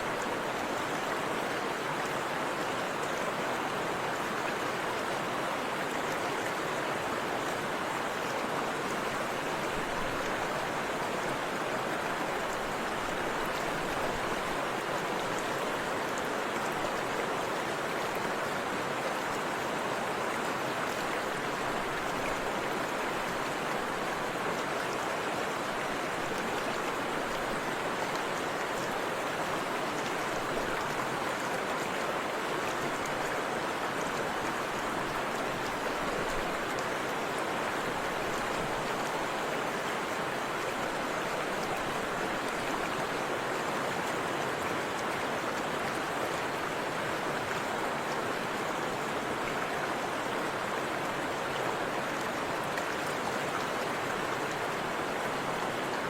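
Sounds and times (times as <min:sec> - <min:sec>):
river and waterfall rushing: 0:00.0 - 0:56.0.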